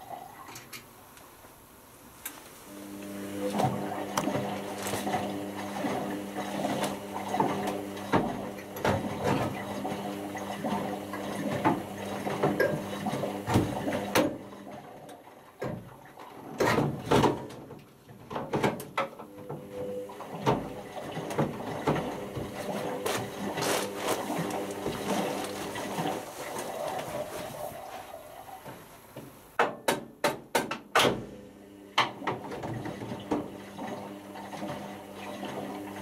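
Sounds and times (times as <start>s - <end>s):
washing machine hum: 0.0s - 36.0s
water sloshing in washing machine: 3.1s - 29.3s, 31.2s - 36.0s.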